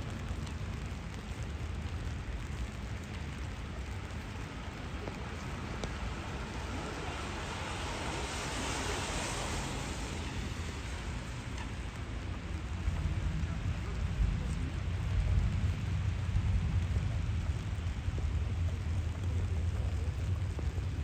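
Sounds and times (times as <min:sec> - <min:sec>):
car tyres hissing on wet road: 0:00.0 - 0:21.0
rain on street: 0:00.0 - 0:21.0.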